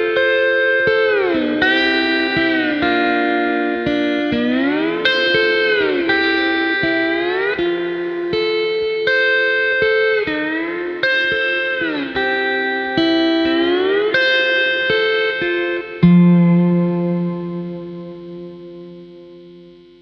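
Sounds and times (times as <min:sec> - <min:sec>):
steel guitar sliding chords: 0:00.0 - 0:20.0.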